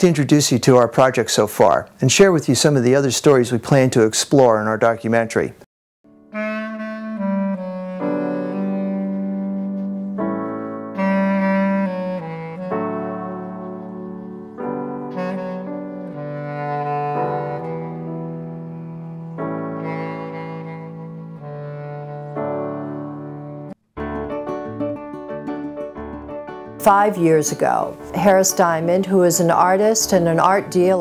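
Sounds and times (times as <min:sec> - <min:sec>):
slow instrumental melody: 0:06.0 - 0:31.0.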